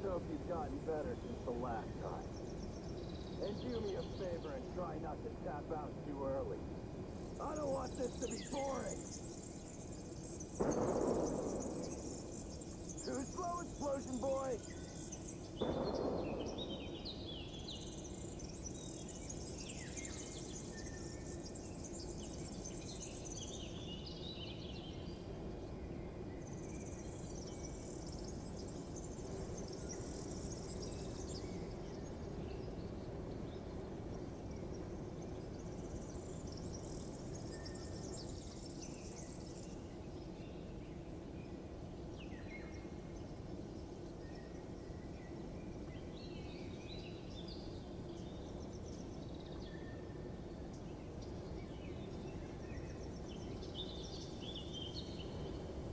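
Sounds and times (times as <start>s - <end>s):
birds chirping: 0.0s - 55.9s
low background noise: 0.0s - 55.9s.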